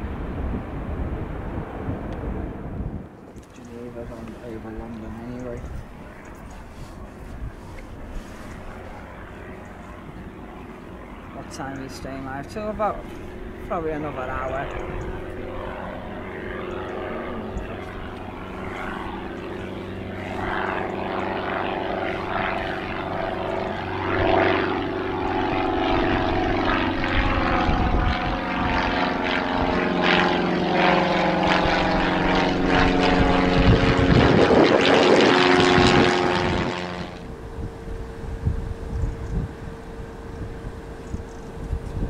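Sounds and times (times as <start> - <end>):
propeller aircraft droning overhead: 0.0 - 42.0.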